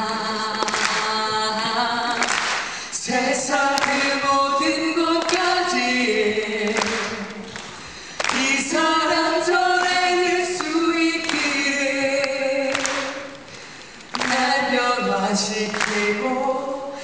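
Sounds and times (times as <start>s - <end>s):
man and woman singing: 0.0s - 17.0s.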